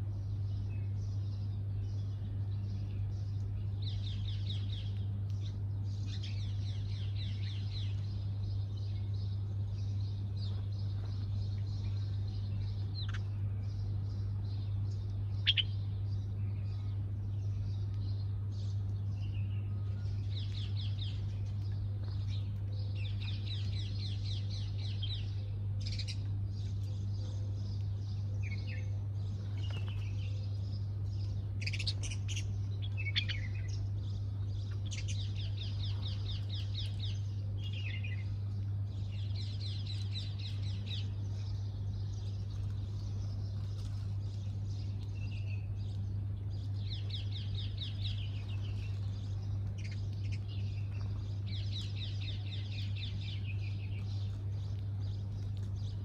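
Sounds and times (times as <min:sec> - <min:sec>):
small birds chirping: 0:00.0 - 0:56.0
steady low hum: 0:00.0 - 0:56.0
trilled birdsong: 0:00.0 - 0:56.0.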